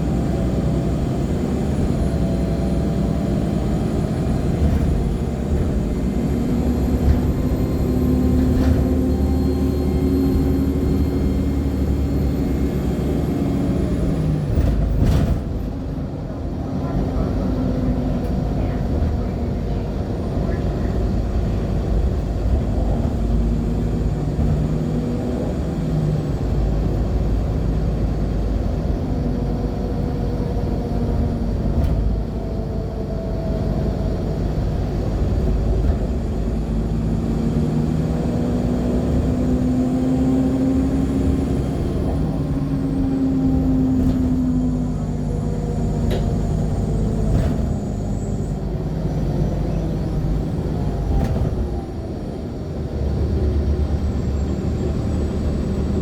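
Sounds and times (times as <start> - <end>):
bus engine low rumble: 0.0 - 56.0.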